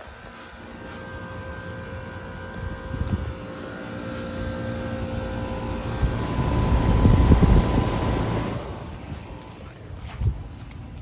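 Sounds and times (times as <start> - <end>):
high whining tones: 0.0 - 9.8
air conditioner compressor and fan hum: 0.0 - 11.0
wind rumbling on microphone: 1.5 - 3.7, 4.3 - 11.0.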